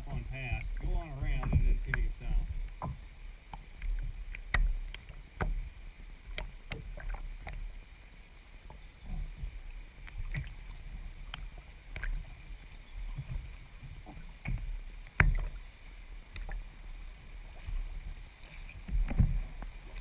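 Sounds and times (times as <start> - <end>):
low steady rumble: 0.0 - 20.0
water splashing against canoe: 0.0 - 20.0.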